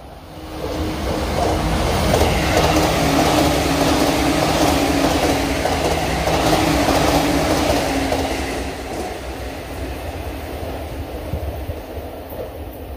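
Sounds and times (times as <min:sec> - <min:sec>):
train wheels rumbling on rail: 0:00.0 - 0:12.9.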